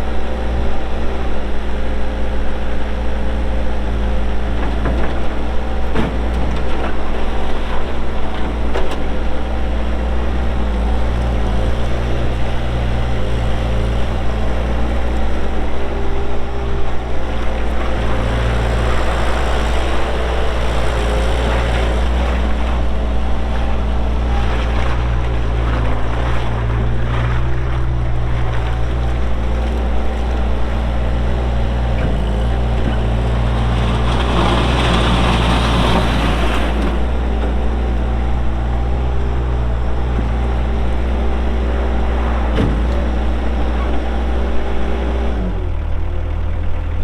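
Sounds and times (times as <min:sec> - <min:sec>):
loader diesel engine working: 0:00.0 - 0:47.0.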